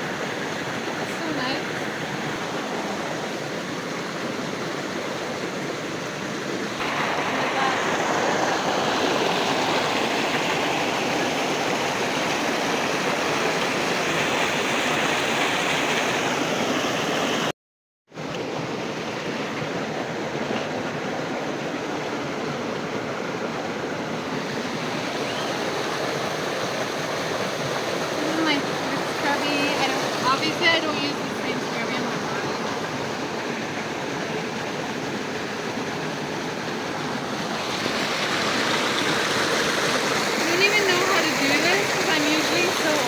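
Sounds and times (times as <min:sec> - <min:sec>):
river water rushing: 0:00.0 - 0:17.5, 0:18.2 - 0:43.0.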